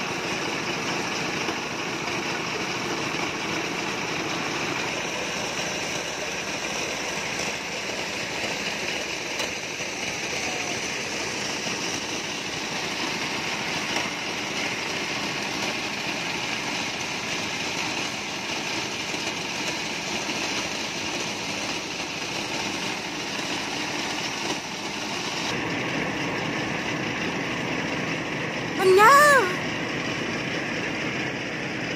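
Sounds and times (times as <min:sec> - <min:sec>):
corn sheller engine running: 0:00.0 - 0:31.9.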